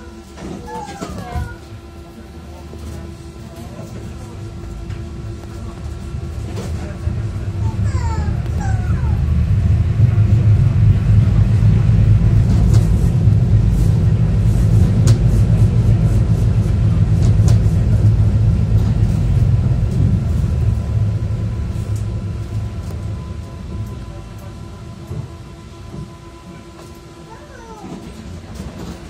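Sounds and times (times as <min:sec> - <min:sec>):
tram wheels rumbling on rails: 0:00.0 - 0:29.0.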